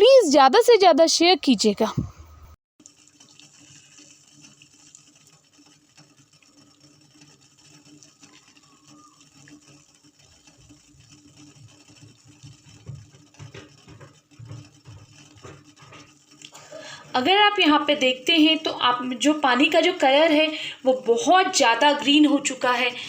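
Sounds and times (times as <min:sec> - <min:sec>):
water bubbling in a pot: 0:02.8 - 0:23.0.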